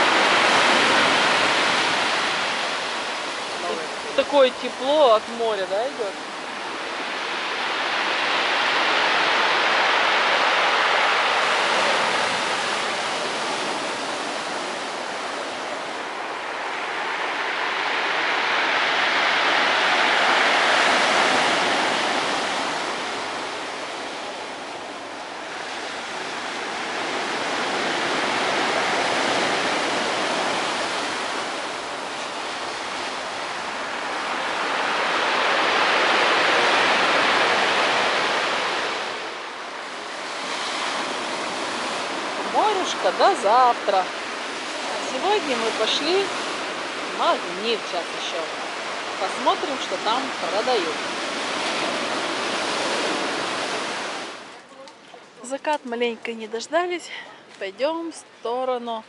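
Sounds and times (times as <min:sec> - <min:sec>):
surf on pebble beach: 0:00.0 - 0:54.7.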